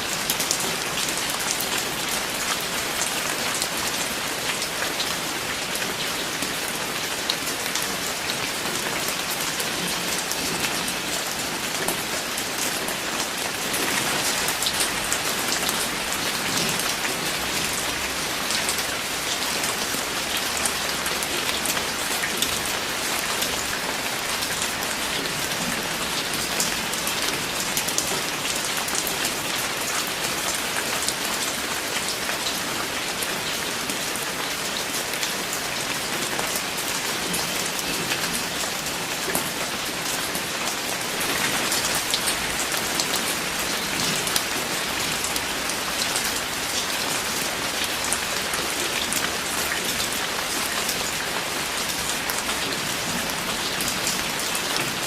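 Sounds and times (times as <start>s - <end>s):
rain drops ticking on a surface: 0.0s - 55.0s.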